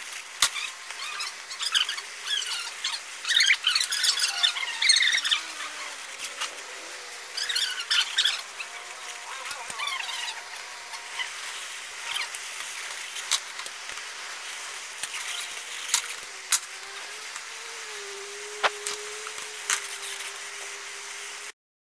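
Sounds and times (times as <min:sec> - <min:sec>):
hot metal sizzling on wood: 0:00.0 - 0:21.6.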